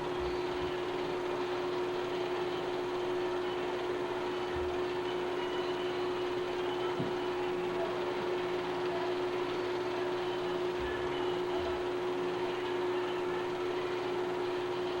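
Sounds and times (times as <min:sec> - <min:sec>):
mid-pitched hum: 0:00.0 - 0:15.0.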